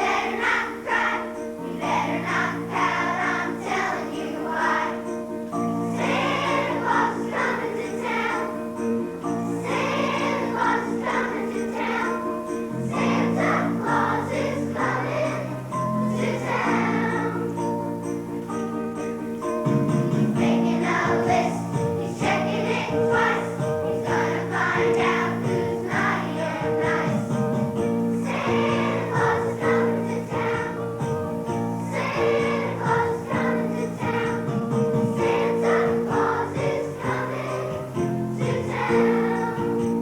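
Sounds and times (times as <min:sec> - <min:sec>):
children's choir singing: 0:00.0 - 0:40.0
instrumental accompaniment: 0:00.0 - 0:40.0.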